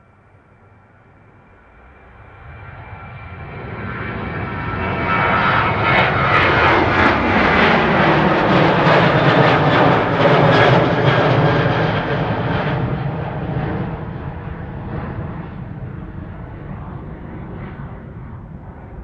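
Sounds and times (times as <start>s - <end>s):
jet engine whine: 0.0s - 19.0s
jet engines roaring: 1.7s - 19.0s.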